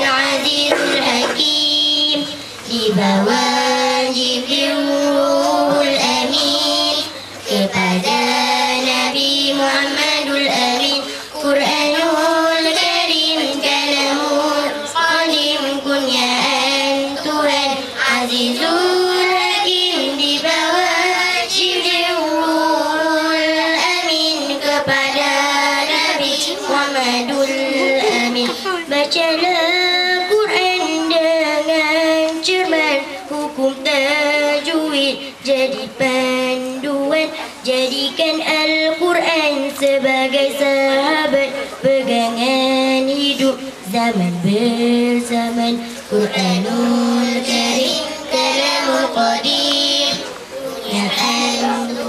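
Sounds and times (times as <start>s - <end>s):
girls singing held notes: 0.0s - 52.0s.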